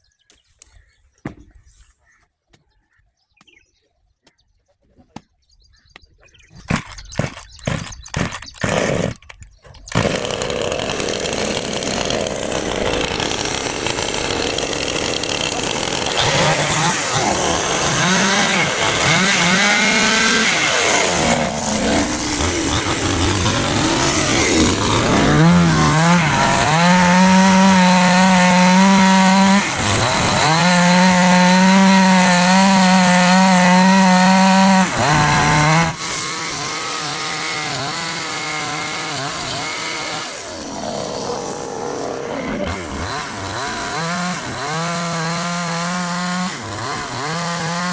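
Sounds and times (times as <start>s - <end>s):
chainsaw cutting wood: 6.6s - 47.9s.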